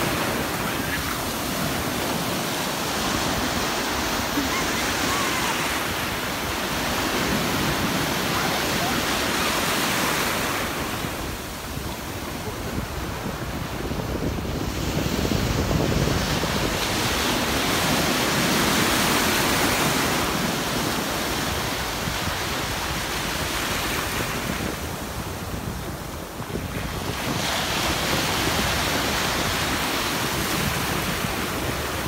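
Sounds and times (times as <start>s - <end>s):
ocean surf washing onto beach: 0.0s - 32.0s
wind rumbling on microphone: 0.0s - 32.0s.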